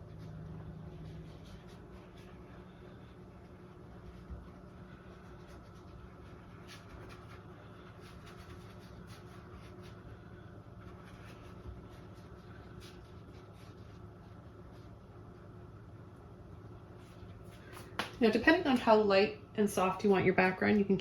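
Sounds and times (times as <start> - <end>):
mop brush brushing on canvas: 0.0 - 15.5, 16.8 - 19.0
low steady hum: 0.0 - 21.0.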